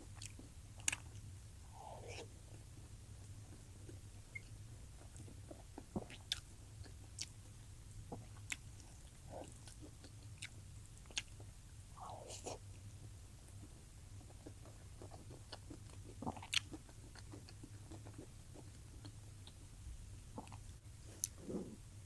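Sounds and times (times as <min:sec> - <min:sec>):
soft wet chewing: 0:00.0 - 0:21.8
low steady hum: 0:00.0 - 0:22.0.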